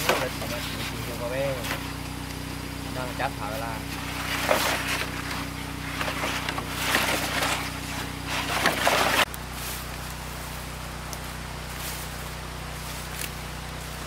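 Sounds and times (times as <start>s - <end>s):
motor running steadily: 0.0s - 14.0s.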